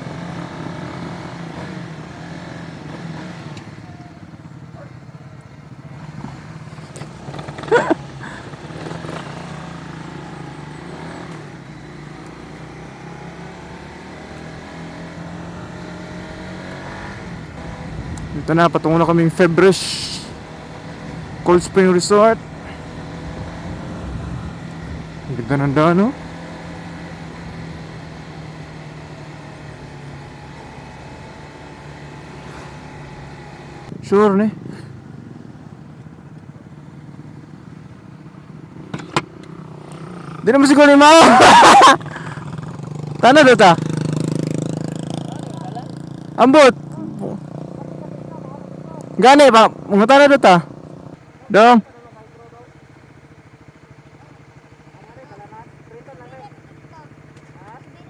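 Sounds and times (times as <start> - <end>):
wind and road noise: 0.0 - 51.9
motorcycle engine running: 0.0 - 58.0.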